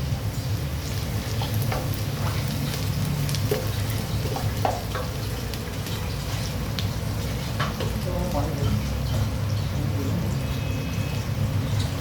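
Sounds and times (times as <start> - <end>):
food frying in a pan: 0.0 - 12.0.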